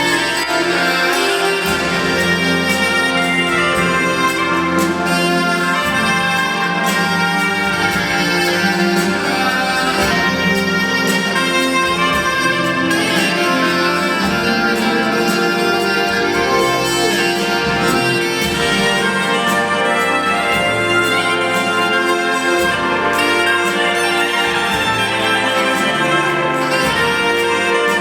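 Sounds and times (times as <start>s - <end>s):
smooth jazz band playing: 0.0s - 28.0s
soprano saxophone melody: 0.0s - 28.0s.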